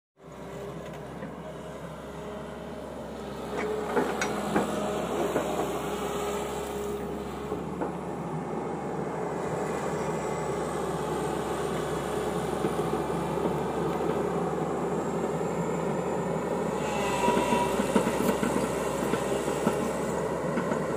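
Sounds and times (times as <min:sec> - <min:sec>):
excavator running: 0:00.2 - 0:20.9.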